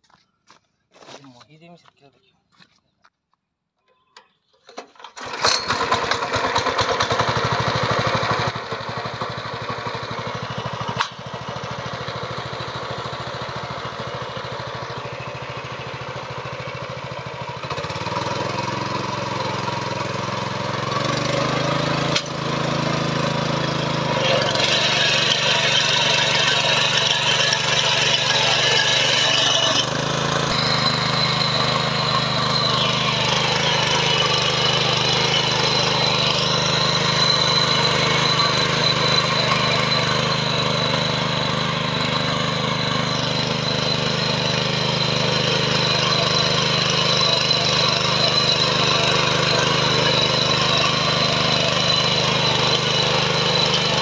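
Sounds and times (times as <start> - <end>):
small tiller engine running: 4.2 - 54.0.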